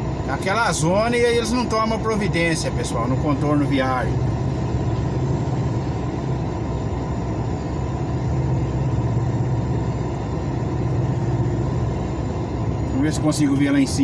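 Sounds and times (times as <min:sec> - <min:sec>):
truck diesel engine idling: 0:00.0 - 0:14.0.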